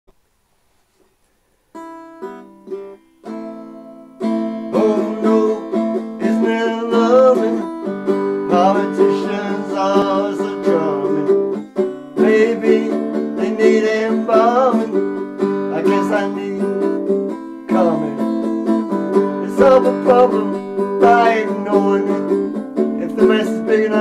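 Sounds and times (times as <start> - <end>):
guitar playing: 1.7 - 24.0.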